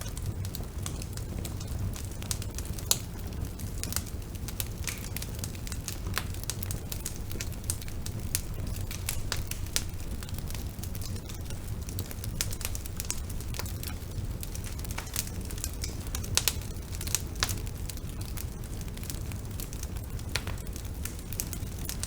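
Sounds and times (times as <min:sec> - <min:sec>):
burning wood crackling and popping: 0:00.0 - 0:22.0
low rumble of fire: 0:00.0 - 0:22.0.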